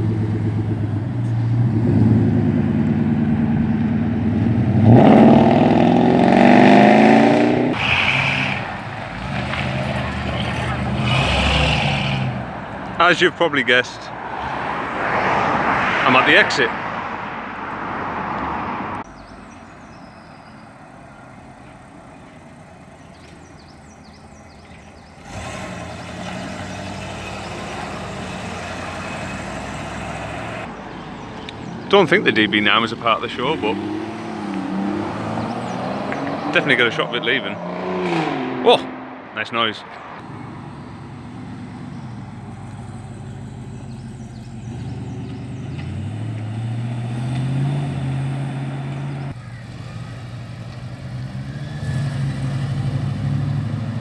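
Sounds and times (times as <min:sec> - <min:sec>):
car engine idling: 0:00.0 - 0:14.3, 0:19.0 - 0:37.6, 0:40.0 - 0:54.0.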